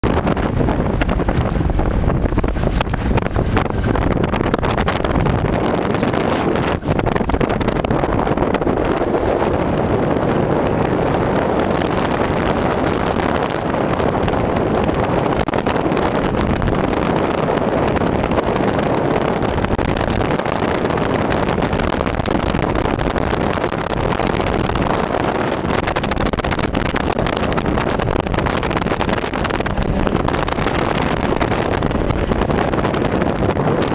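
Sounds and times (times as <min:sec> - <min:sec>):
atv engine running: 0:00.0 - 0:33.9
wind buffeting microphone: 0:00.0 - 0:33.9.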